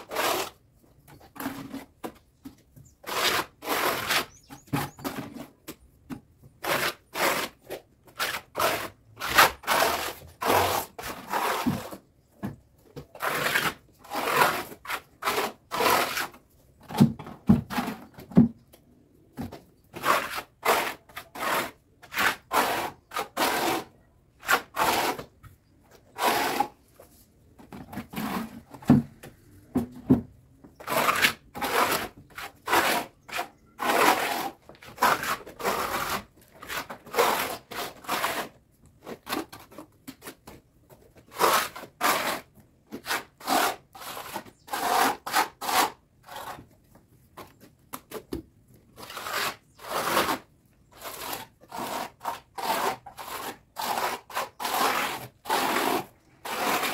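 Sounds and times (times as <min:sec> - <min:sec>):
trowel scraping mortar on bricks: 0:00.0 - 0:18.5, 0:19.1 - 0:56.9.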